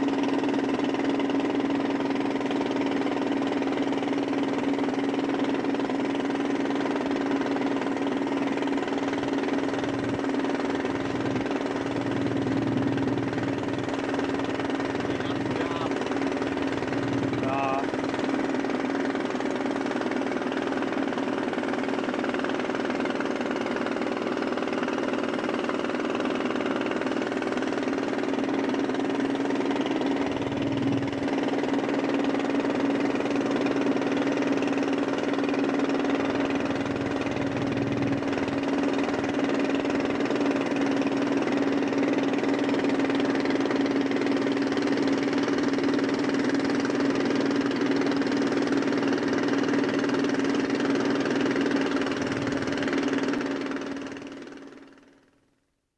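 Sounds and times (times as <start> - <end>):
boat engine humming: 0.0 - 55.2.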